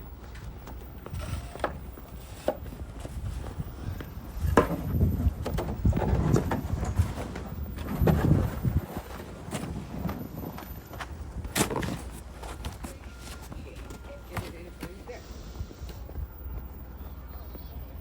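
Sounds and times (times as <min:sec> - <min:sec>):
footsteps with knocks and thuds: 0:00.2 - 0:17.6.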